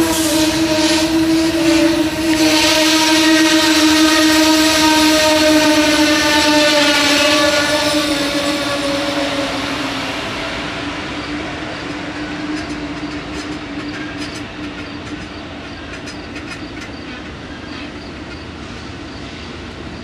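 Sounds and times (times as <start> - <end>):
train rumble: 0.0 - 20.0
wheels squeaking on rails: 0.0 - 20.0.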